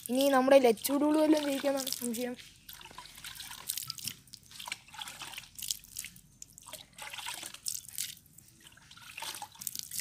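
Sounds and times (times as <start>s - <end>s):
water splashing onto concrete: 0.0s - 10.0s.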